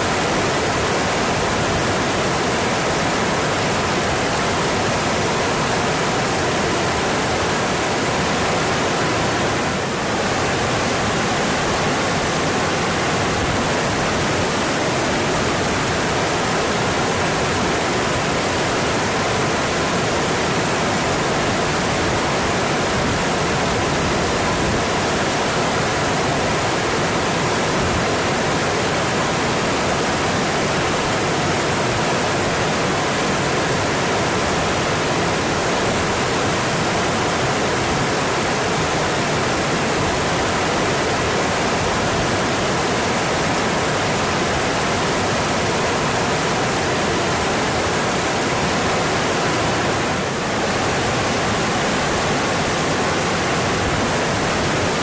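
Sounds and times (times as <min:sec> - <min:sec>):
mountain stream flowing: 0:00.0 - 0:55.0.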